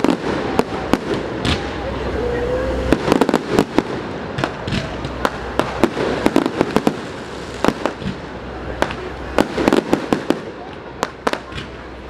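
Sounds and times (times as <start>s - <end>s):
fireworks bangs and pops: 0.0s - 2.0s, 2.7s - 11.9s
background noise: 0.0s - 12.0s.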